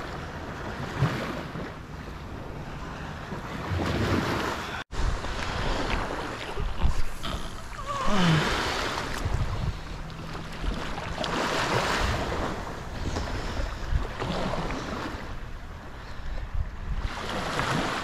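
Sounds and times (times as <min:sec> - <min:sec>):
small waves washing in: 0:00.0 - 0:18.0
wind buffeting microphone: 0:00.0 - 0:18.0.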